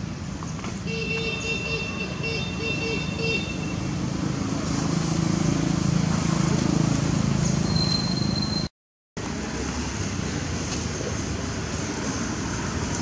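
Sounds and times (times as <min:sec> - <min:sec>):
road traffic engine rumble: 0:00.0 - 0:13.0.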